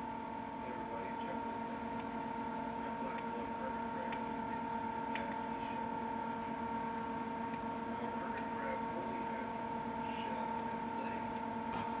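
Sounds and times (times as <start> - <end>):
computer fan humming: 0.0 - 12.0.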